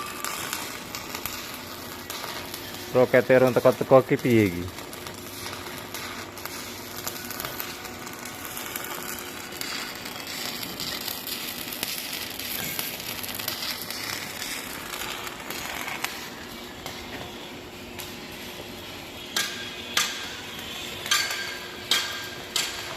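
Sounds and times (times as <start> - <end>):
arc welding crackle: 0.0 - 22.9.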